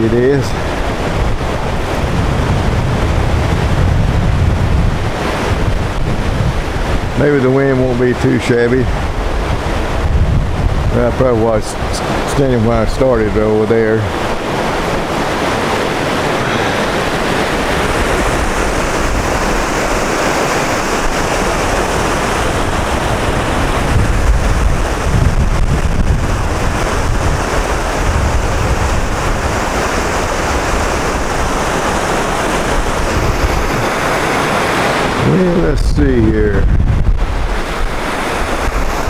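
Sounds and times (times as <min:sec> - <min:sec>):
river rushing over rocks: 0:00.0 - 0:08.0, 0:08.6 - 0:39.0
wind buffeting microphone: 0:00.0 - 0:39.0.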